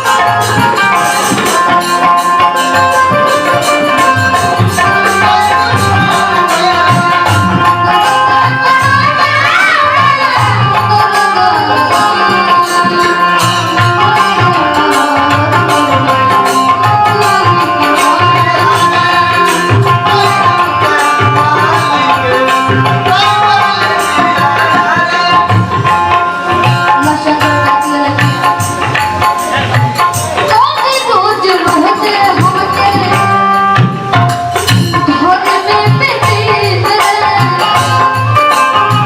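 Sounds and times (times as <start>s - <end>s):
bending melody line: 0.0s - 39.0s
hand drum steady beat: 0.0s - 39.0s.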